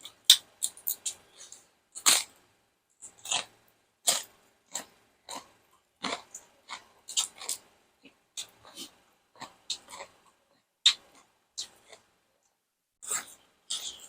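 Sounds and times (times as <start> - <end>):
person chewing crunchy food: 0.0 - 2.3, 3.0 - 12.1, 13.0 - 14.0.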